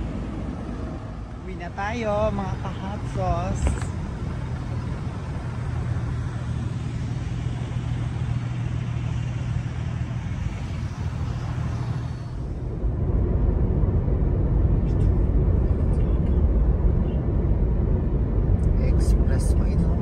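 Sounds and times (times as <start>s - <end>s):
car engine and road hum: 0.0s - 20.0s
tyre and road rumble: 0.0s - 20.0s.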